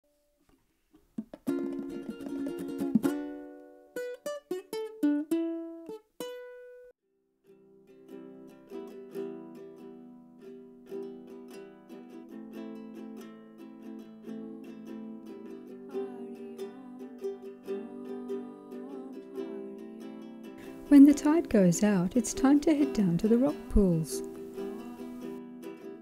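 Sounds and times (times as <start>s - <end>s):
plucked string instrument music: 1.2s - 26.0s.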